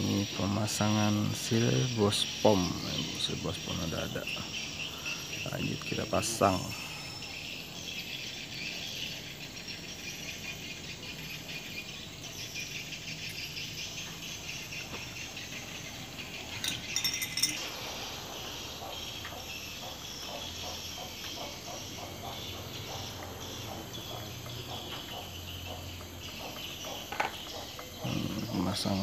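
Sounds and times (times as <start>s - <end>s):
insect chirring: 0.0s - 29.0s.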